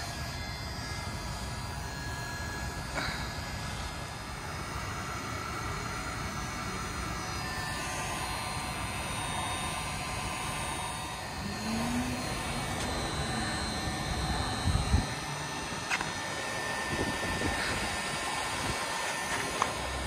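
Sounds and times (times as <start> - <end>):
heat gun fan blowing: 0.0 - 20.0.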